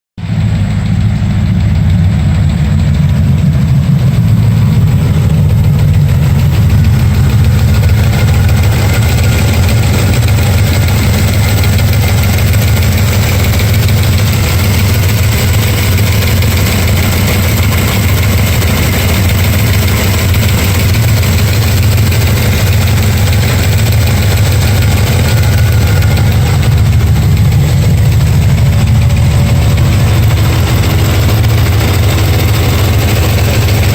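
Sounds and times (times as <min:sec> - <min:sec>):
engine ticking noise: 0:00.2 - 0:33.9
vehicle engine idling: 0:00.2 - 0:33.9.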